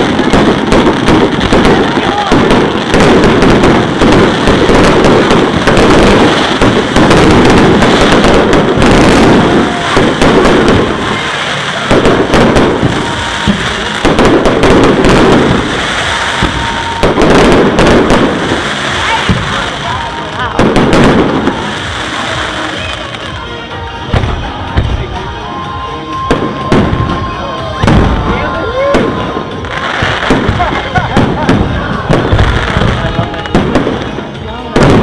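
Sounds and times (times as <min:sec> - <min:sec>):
fireworks banging and crackling: 0:00.0 - 0:35.0.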